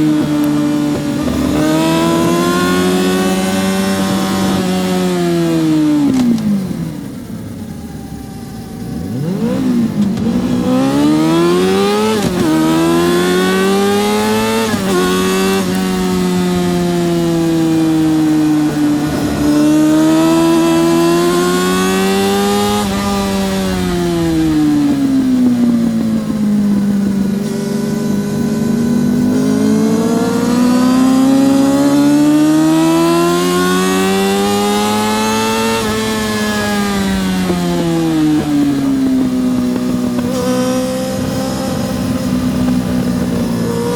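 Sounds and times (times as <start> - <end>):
motorcycle engine revving at full throttle: 0.0 - 43.9.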